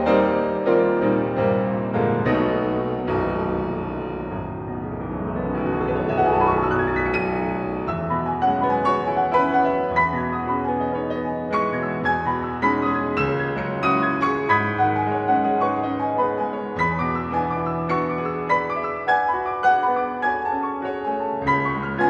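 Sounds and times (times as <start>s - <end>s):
solo piano playing: 0.0s - 22.0s.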